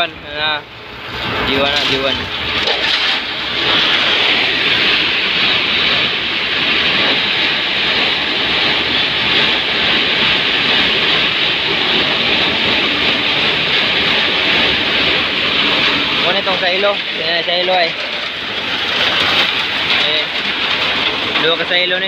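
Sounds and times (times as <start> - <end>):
plant machinery: 0.0 - 22.0
high-pressure water jet hissing: 1.1 - 22.0.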